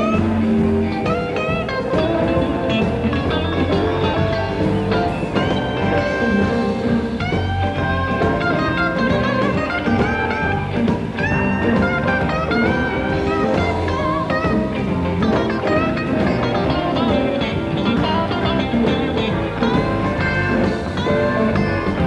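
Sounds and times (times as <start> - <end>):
electric guitar lead solo: 0.0 - 22.0
live blues band: 0.0 - 22.0.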